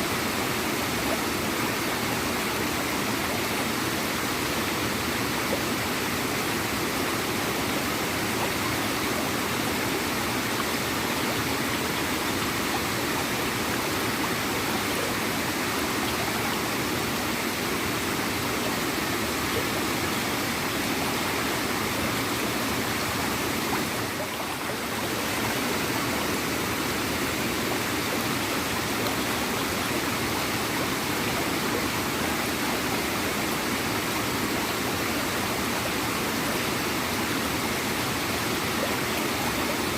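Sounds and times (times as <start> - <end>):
small waterfall gurgling: 0.0 - 39.9.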